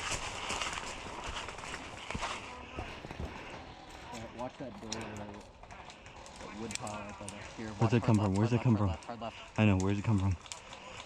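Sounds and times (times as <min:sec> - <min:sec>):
footsteps walking outdoors: 0:00.0 - 0:09.4
background rustle: 0:00.0 - 0:11.0.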